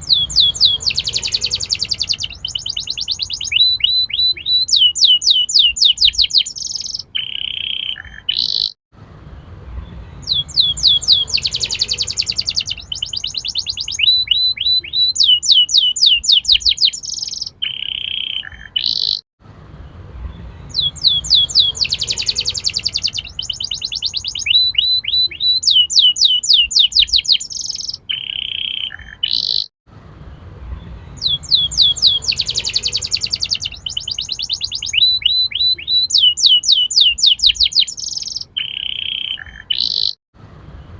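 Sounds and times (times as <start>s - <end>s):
canary singing trills: 0.0s - 8.8s, 9.8s - 19.2s, 20.3s - 29.7s, 30.7s - 40.2s.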